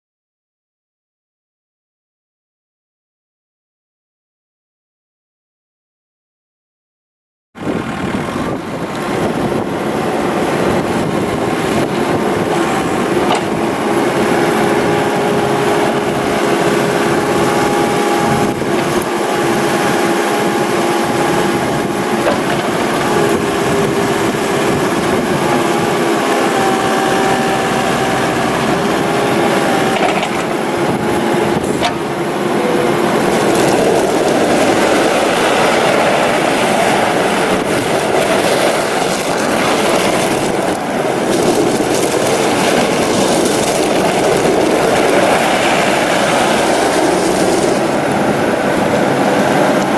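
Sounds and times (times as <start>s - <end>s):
diesel engine running: 7.6s - 49.9s
steady whine: 7.6s - 49.9s.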